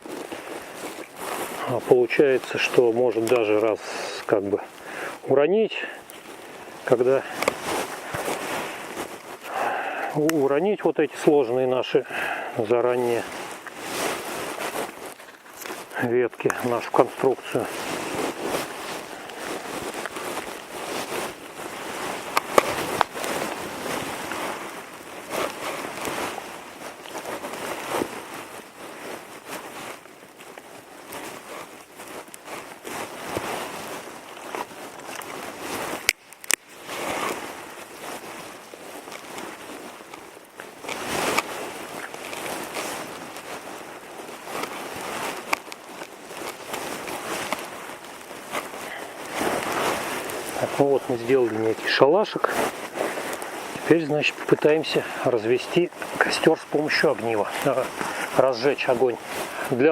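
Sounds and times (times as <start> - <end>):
sticks rustling: 0.0 - 59.9
twigs cracking: 0.0 - 59.9.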